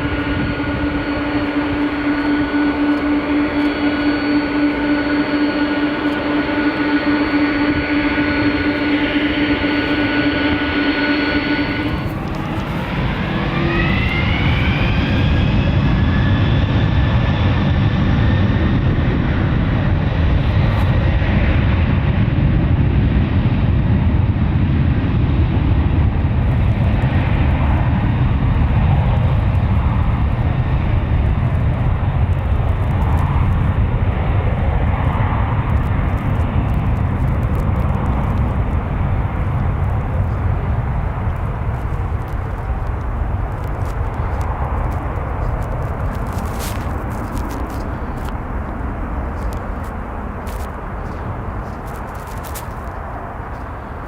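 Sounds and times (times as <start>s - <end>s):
jet engines spooling up: 0.0s - 23.4s, 26.0s - 54.0s.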